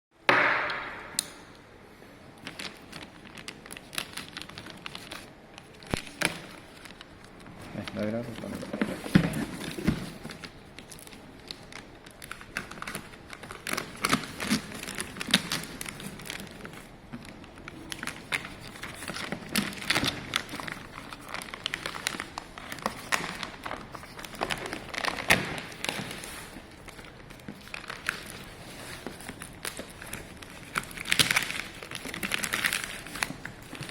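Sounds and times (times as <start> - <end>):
plastic crinkling: 2.4 - 33.9.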